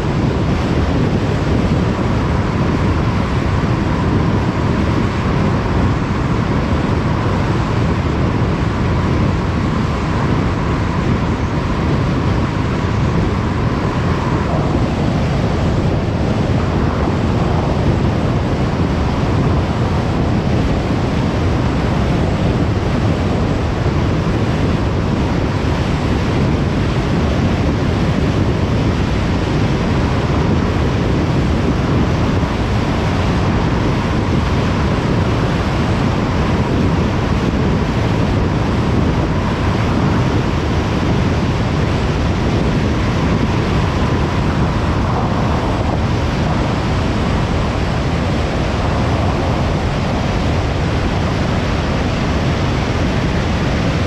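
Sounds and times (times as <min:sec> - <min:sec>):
car road and wind noise: 0:00.0 - 0:54.0
faint steady whine: 0:00.0 - 0:54.0.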